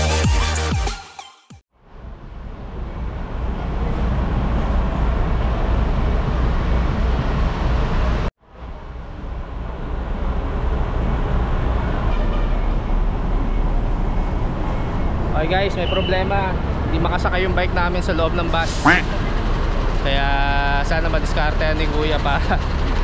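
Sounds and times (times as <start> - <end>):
traffic rumble: 1.8 - 23.0.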